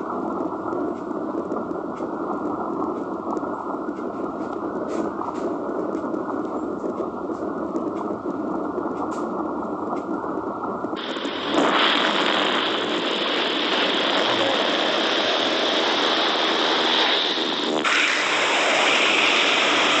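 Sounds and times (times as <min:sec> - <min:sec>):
rushing wind buffeting microphone: 0:00.0 - 0:20.0.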